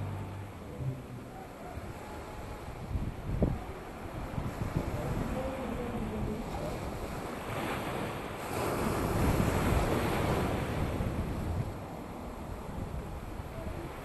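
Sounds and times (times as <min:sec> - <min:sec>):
wave breaking: 0:00.0 - 0:11.9
ocean surf against seawall: 0:00.0 - 0:14.0
wind buffeting microphone: 0:00.0 - 0:14.0.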